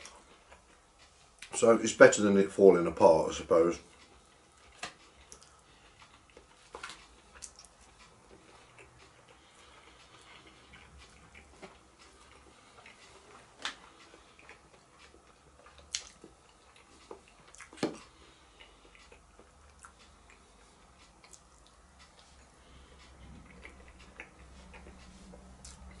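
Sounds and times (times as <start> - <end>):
chewing: 0.0 - 1.6, 3.8 - 26.0.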